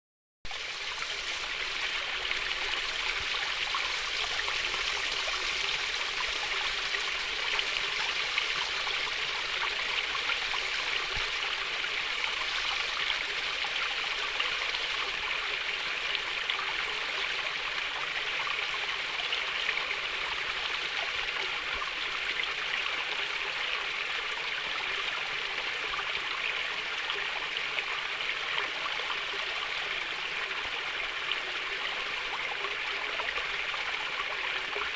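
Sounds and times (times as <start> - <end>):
stream of water babbling: 0.5 - 34.9.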